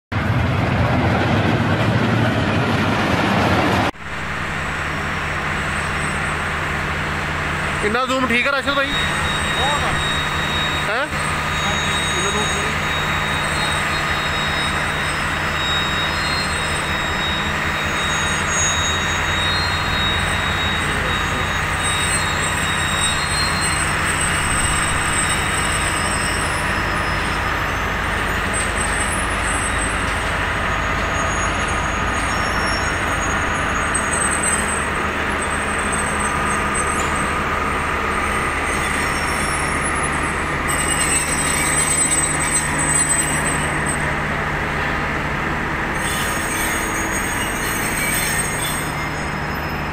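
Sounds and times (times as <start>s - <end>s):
diesel locomotive running: 0.1s - 49.9s
wheel squeal: 4.2s - 49.9s.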